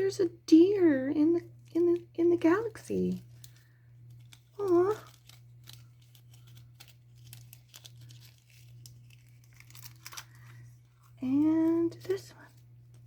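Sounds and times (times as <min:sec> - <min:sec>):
steady low hum: 0:00.0 - 0:13.0
plastic packaging crinkling: 0:01.6 - 0:13.0.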